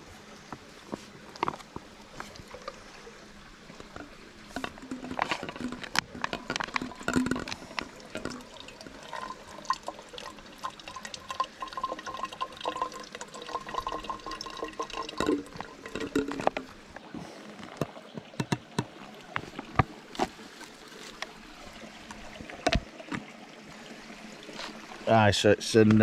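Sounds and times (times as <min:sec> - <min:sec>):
water trickling into a container: 0:00.4 - 0:25.9.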